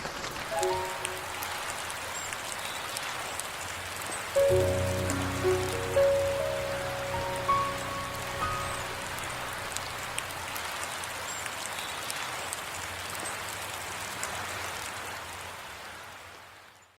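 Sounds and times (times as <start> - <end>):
steady rain falling: 0.0 - 16.9
dripping water ticks: 0.6 - 14.9.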